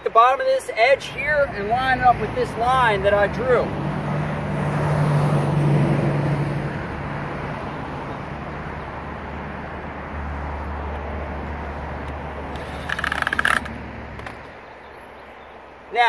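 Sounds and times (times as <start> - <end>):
low steady traffic hum: 0.0 - 16.0
vehicle passing: 1.0 - 14.9.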